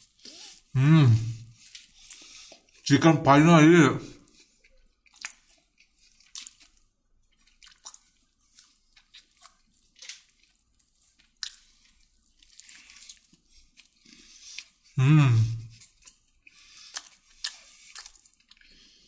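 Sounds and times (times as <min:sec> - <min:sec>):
person chewing food: 0:00.0 - 0:02.9, 0:04.1 - 0:19.0.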